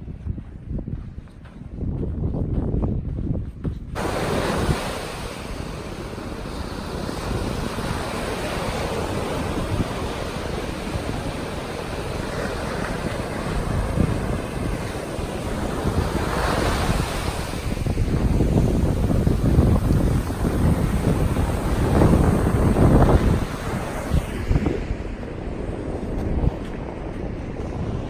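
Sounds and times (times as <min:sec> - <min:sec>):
wind rumbling on microphone: 0:00.0 - 0:28.0
sea waves washing onto shore: 0:04.0 - 0:28.0.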